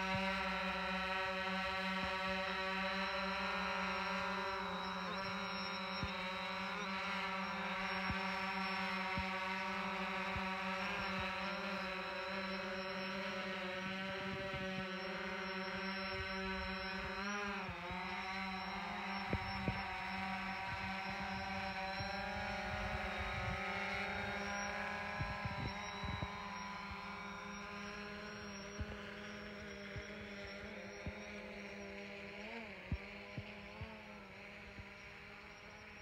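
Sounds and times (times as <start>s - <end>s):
drone propellers whining: 0.0s - 36.0s.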